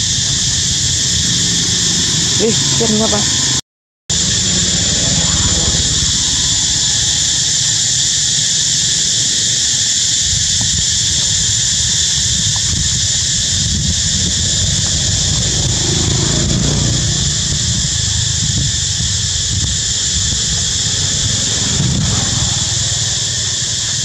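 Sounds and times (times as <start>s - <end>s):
low rumble: 0.0s - 8.8s, 10.4s - 23.8s
high-pitched insect chorus: 0.0s - 24.0s.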